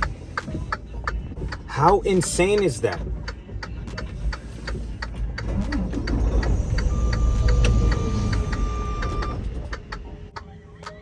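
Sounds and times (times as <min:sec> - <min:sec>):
steady ticking: 0:00.0 - 0:10.5.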